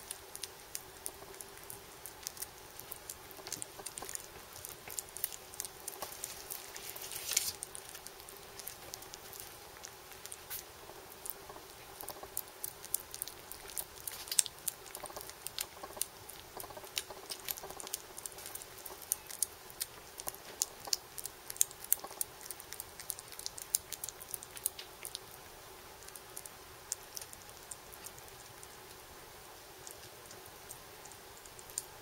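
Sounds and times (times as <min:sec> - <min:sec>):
faint steady hum: 0:00.0 - 0:32.0
kitten lapping and chewing: 0:00.0 - 0:32.0.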